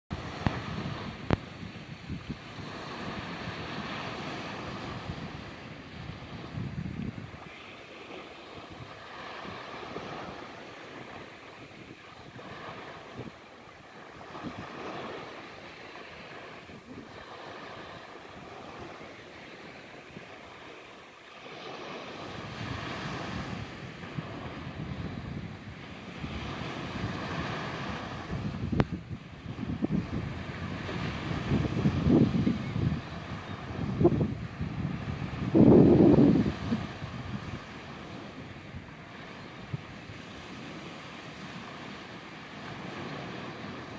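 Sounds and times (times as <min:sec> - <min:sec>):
wind buffeting microphone: 0:00.1 - 0:20.4, 0:21.5 - 0:43.9
small waves breaking on sand: 0:00.1 - 0:43.9.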